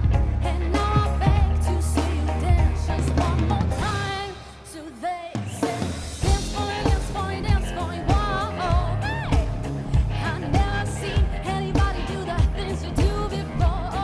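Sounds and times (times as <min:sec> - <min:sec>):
band playing pop song: 0:00.0 - 0:14.0
drum kit beat: 0:00.0 - 0:14.0
person singing: 0:00.0 - 0:14.0.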